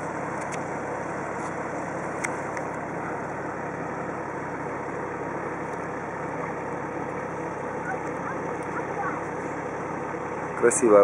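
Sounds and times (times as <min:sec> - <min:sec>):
vehicles idling hum: 0:00.0 - 0:11.0.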